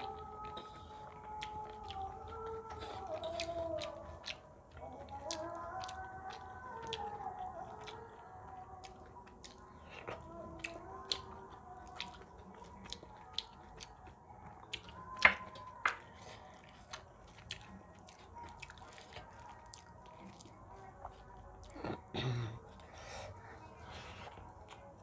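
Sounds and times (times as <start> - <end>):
man chewing with lip smacks: 0.0 - 22.1.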